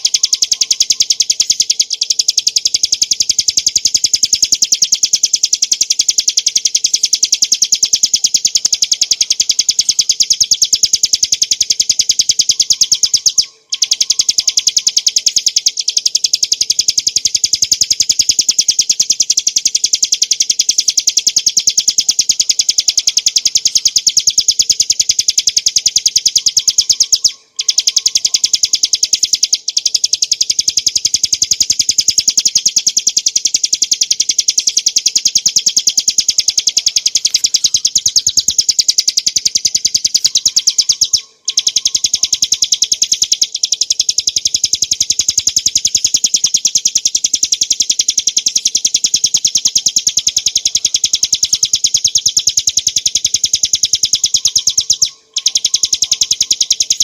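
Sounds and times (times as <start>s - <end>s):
bird singing high chirping notes: 0.0s - 57.0s.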